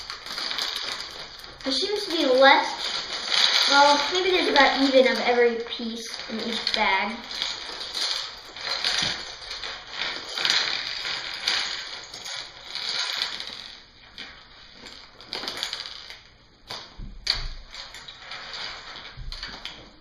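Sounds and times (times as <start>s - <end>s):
plastic bags rustling: 0.0s - 16.4s.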